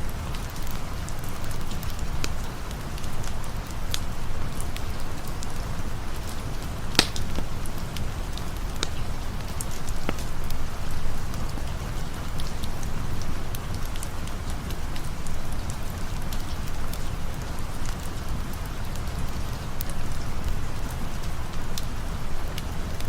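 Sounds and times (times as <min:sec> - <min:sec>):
campfire crackling and popping: 0:00.0 - 0:23.0
steady rain: 0:00.0 - 0:23.0.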